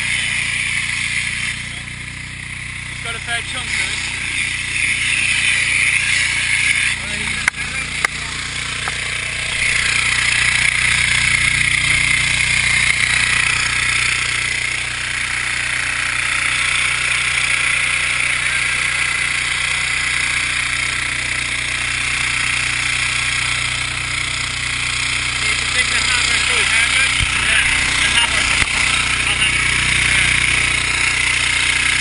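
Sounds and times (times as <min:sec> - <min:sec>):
motor humming: 0:00.0 - 0:32.0.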